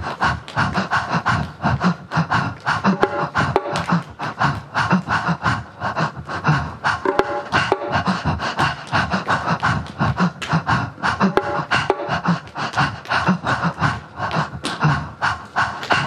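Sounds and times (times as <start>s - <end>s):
rhythmic mouth panting breaths: 0.0s - 16.0s.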